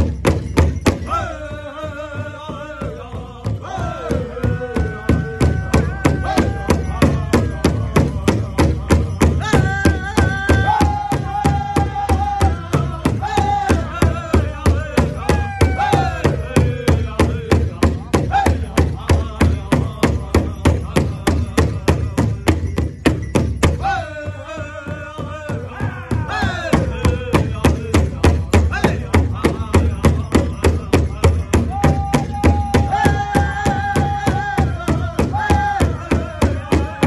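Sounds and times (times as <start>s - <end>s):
bass drum beat: 0.0s - 37.0s
chorus of high voices singing: 1.0s - 20.2s, 23.8s - 37.0s.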